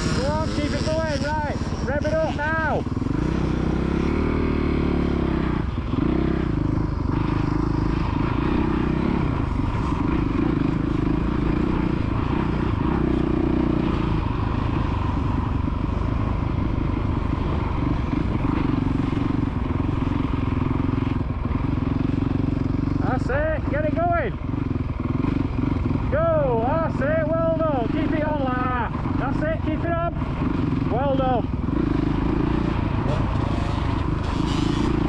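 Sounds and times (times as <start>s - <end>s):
motocross bike engine revving: 0.0s - 35.0s.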